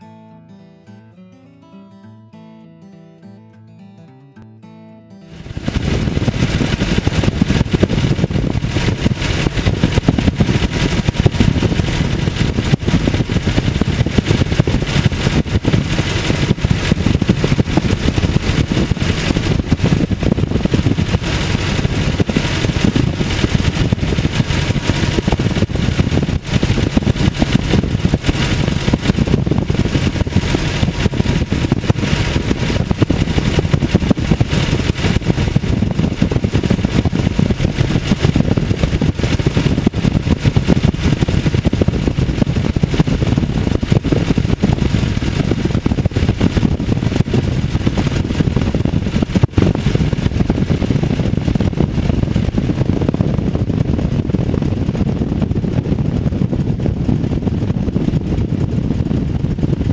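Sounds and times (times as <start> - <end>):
light aircraft engine and propeller: 5.3 - 59.9
rushing air noise: 5.3 - 59.9.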